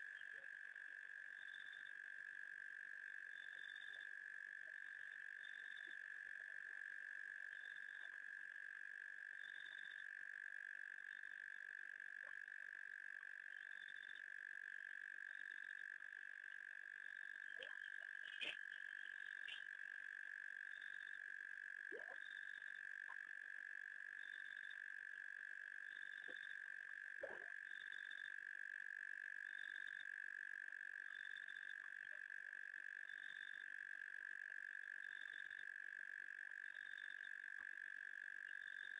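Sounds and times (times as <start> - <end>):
frogs and insects trilling: 0.0 - 38.9.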